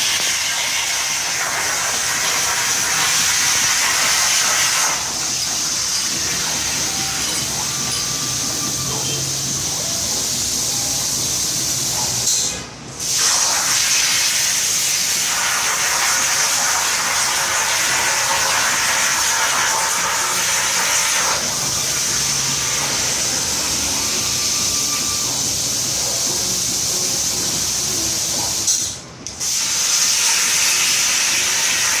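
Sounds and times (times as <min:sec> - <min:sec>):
plasma cutter hissing: 0:00.0 - 0:32.0.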